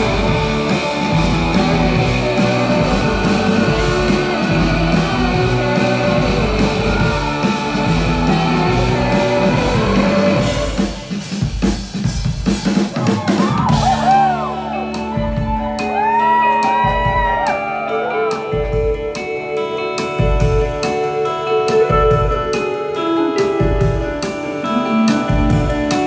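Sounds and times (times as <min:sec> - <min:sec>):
lead electric guitar bending pitch: 0:00.0 - 0:11.1, 0:14.0 - 0:26.0
rock band playing live: 0:00.0 - 0:26.0.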